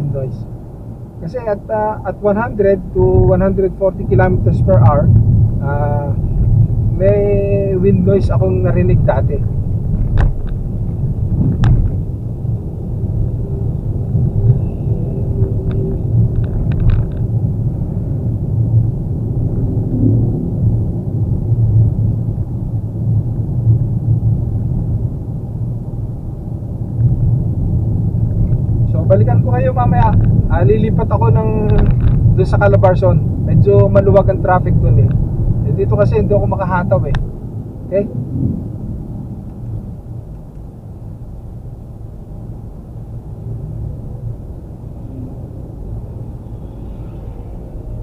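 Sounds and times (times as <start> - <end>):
road and tyre rumble: 0.0 - 48.0.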